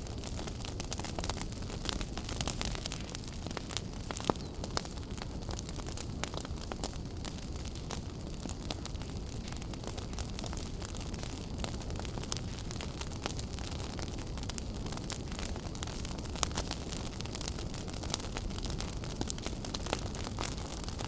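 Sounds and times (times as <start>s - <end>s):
fire crackling and popping: 0.0s - 21.0s
flames rumbling and hissing: 0.0s - 21.0s.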